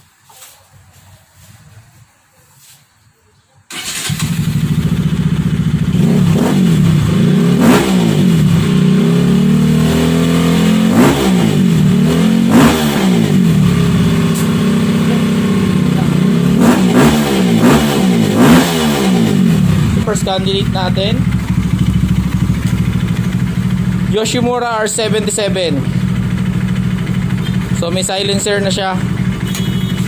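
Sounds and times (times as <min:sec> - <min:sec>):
motorcycle engine idling and revving: 0:03.7 - 0:30.0.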